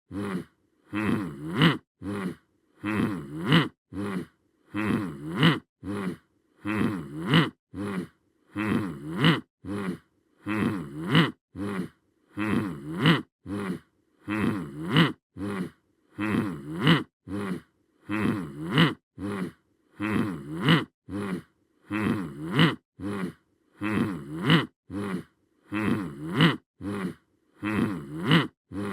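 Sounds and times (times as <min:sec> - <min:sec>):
voice-like groaning sound effect: 0:00.1 - 0:28.9.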